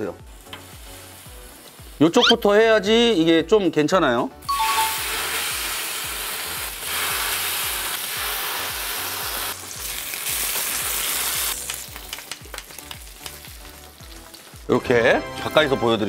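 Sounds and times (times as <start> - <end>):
pork skin sizzling on grill: 0.0 - 3.3, 4.5 - 16.0.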